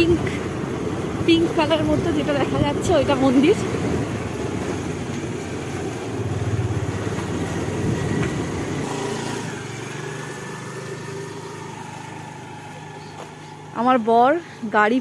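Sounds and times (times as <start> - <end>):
motor scooter engine running: 0.0 - 15.0.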